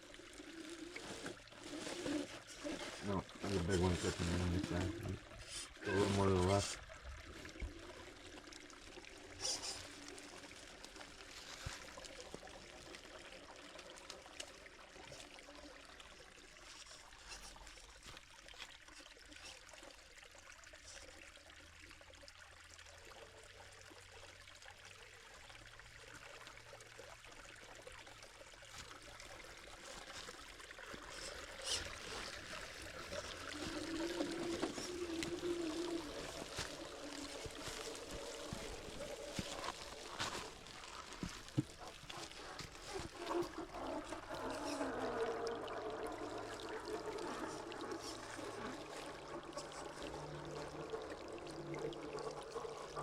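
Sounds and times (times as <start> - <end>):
small waterfall over rock: 0.0 - 53.0.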